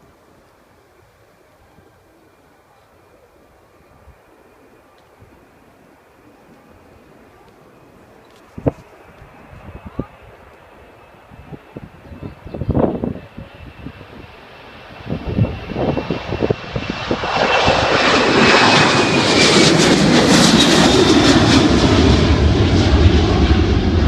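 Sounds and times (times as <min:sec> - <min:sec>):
high aircraft whine: 0:00.2 - 0:24.0
airplane engines roaring: 0:00.3 - 0:24.0.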